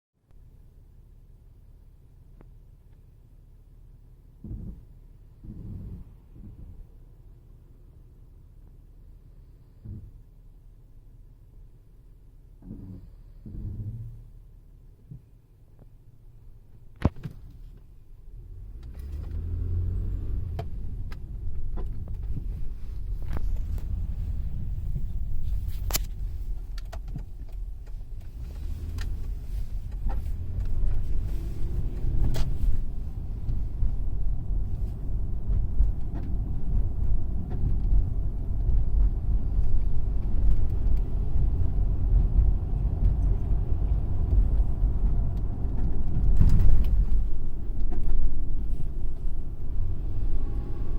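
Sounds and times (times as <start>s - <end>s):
car rolling low rumble: 0.2s - 50.9s.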